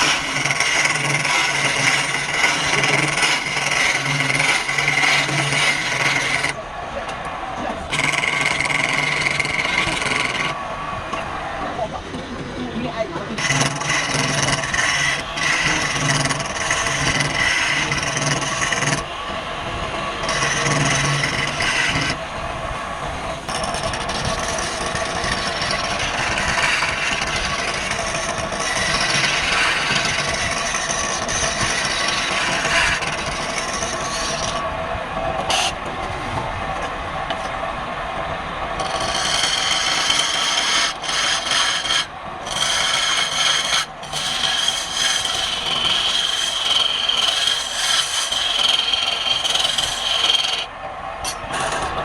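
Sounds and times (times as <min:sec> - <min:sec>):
lathe humming: 0:00.0 - 0:52.0
tool scraping spinning wood: 0:00.0 - 0:52.0.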